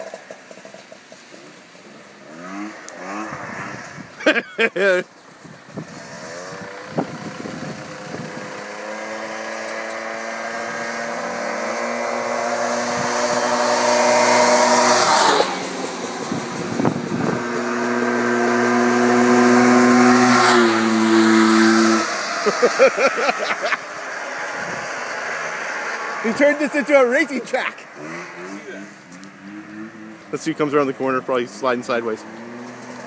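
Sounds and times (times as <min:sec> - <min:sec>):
buggy engine accelerating: 0:00.0 - 0:33.0.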